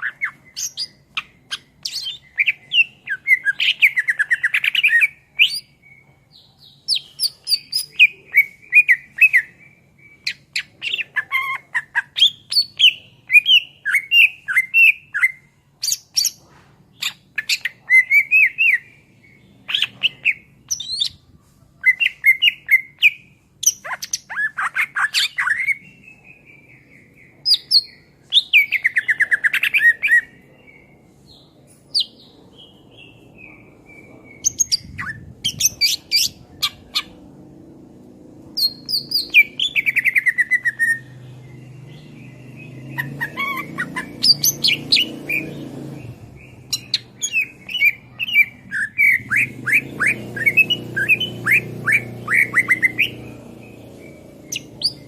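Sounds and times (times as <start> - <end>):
bird singing: 0.0 - 16.4, 17.0 - 37.8, 38.6 - 55.0.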